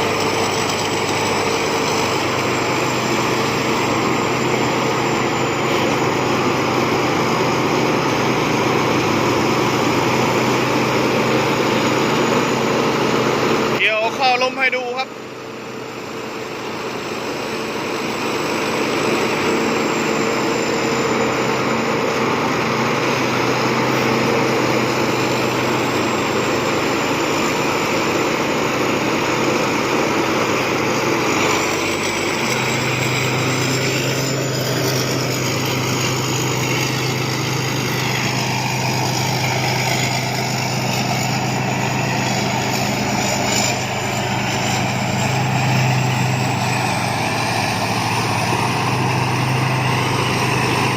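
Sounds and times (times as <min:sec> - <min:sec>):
combine harvester droning: 0:00.0 - 0:50.9.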